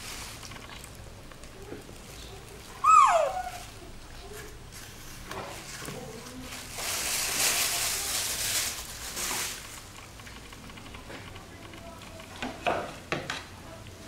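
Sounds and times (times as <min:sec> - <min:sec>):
rustling: 0:00.0 - 0:12.6.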